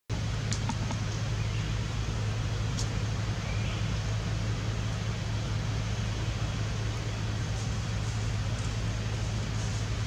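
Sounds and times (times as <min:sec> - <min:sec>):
constant hiss: 0:00.1 - 0:10.0
steady low hum: 0:00.1 - 0:10.0.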